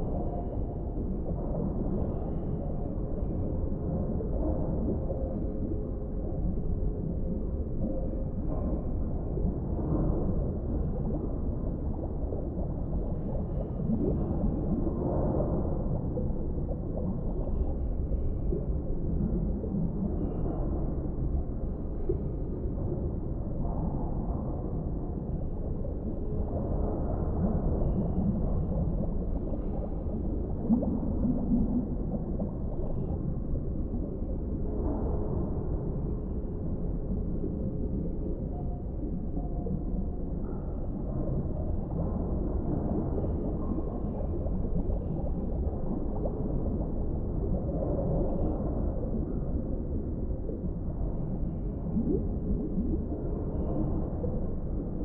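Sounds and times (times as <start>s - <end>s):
muffled underwater rumble: 0.0s - 55.0s
soft bubbling: 0.0s - 55.0s.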